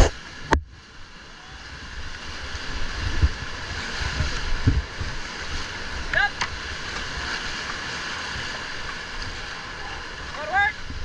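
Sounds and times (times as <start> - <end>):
river rapids splashing: 0.0 - 11.0
wind buffeting microphone: 1.8 - 11.0.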